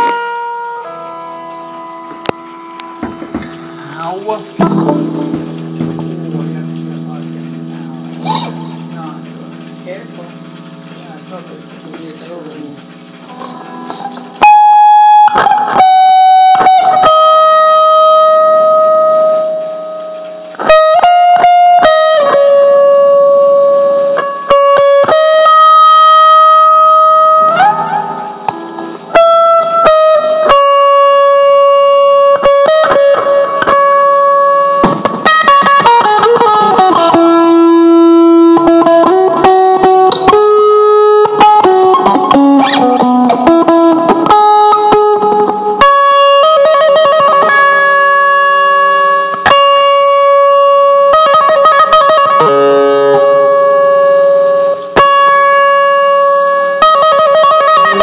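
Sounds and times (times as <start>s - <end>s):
guitar playing: 0.0s - 58.0s.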